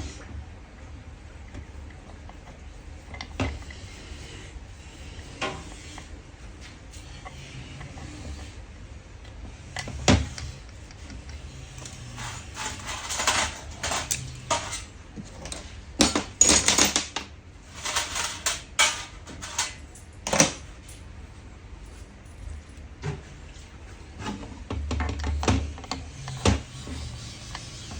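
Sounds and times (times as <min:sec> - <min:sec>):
low background hum: 0:00.0 - 0:27.9.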